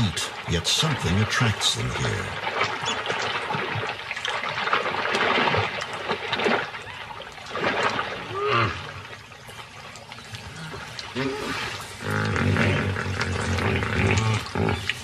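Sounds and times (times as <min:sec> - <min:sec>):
crocodiles splashing in mud: 0:01.8 - 0:15.0.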